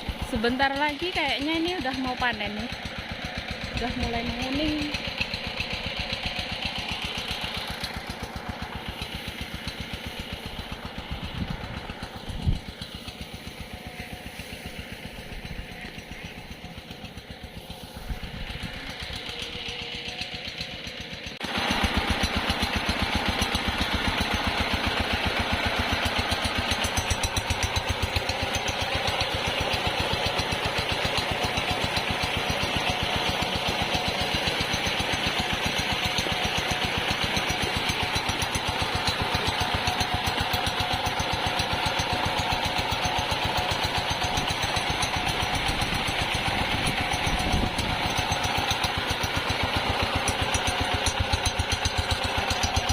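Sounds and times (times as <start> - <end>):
diesel pump engine running: 0.0 - 52.9.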